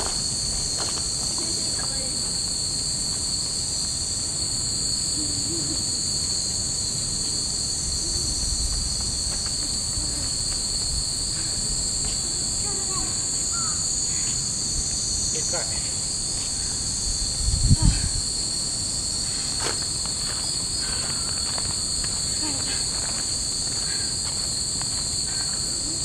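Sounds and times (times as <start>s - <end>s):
cicadas chorus: 0.0s - 26.0s.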